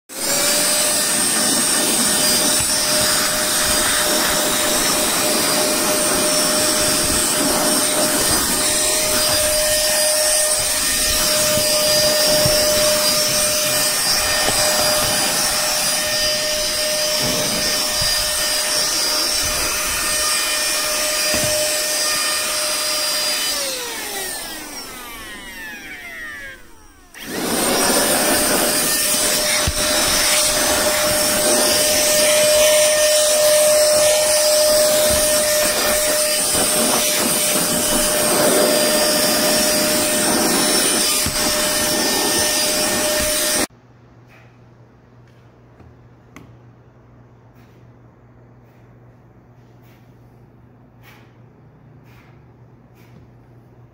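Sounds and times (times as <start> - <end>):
handheld vacuum motor whining: 0.1 - 43.7.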